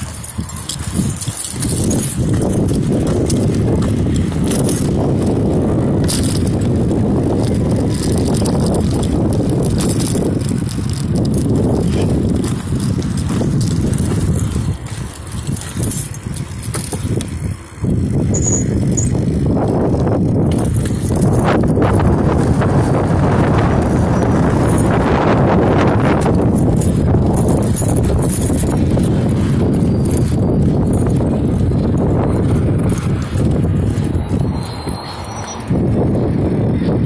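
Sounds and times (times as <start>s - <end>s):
bicycle tyre and road noise: 0.0s - 37.0s
wind rumbling on microphone: 0.0s - 37.0s.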